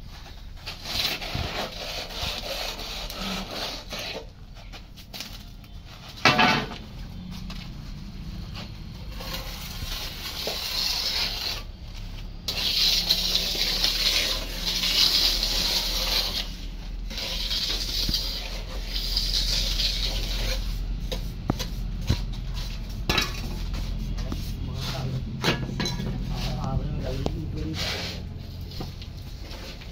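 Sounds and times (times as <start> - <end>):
trowel scraping wet cement: 0.2 - 5.3, 8.4 - 25.2, 25.8 - 29.9.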